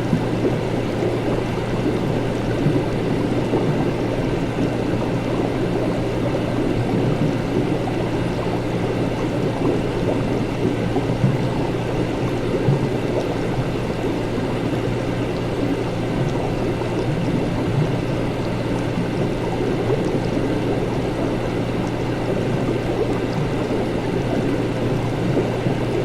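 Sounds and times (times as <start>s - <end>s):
bubbling gurgling liquid: 0.0s - 26.0s.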